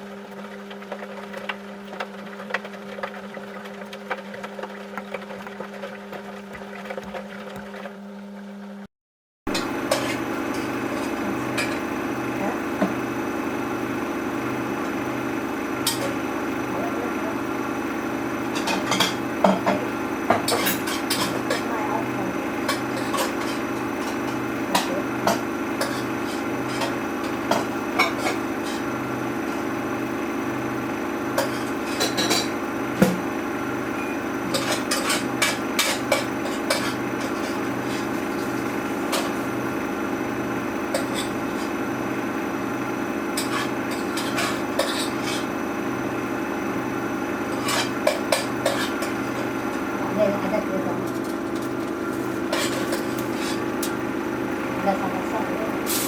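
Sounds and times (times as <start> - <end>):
washing machine humming: 0.0 - 8.9, 9.5 - 56.0.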